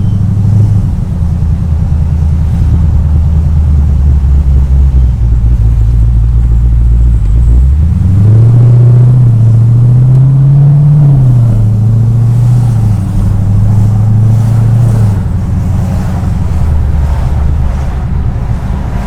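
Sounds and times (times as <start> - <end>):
car exhaust under load: 0.0 - 19.0.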